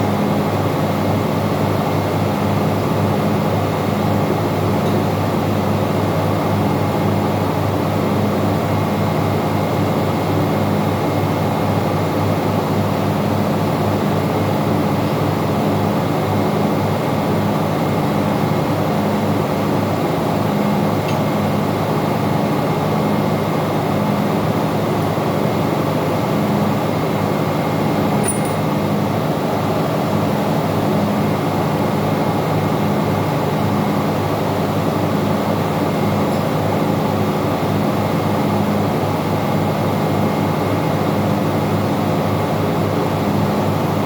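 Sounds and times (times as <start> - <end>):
engine room machinery drone: 0.0 - 44.0.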